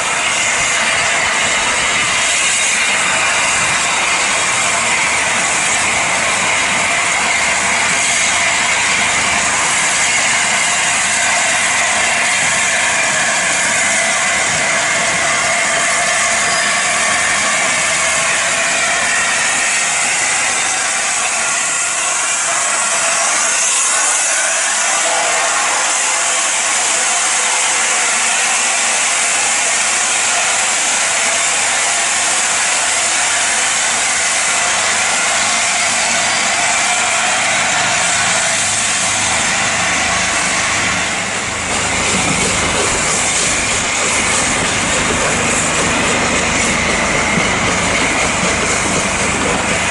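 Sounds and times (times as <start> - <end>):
train hiss and rush: 0.0 - 49.9.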